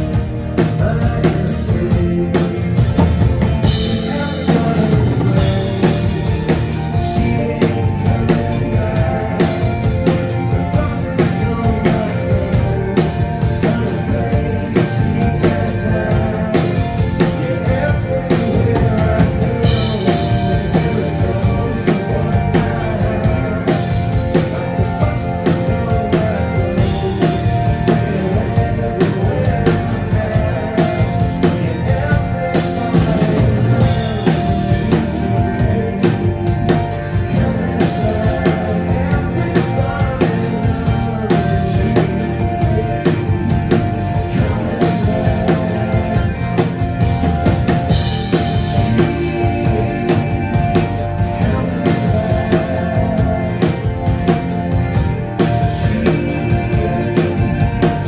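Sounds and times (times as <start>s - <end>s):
drum kit steady beat: 0.0s - 58.0s
rock band playing live: 0.0s - 58.0s.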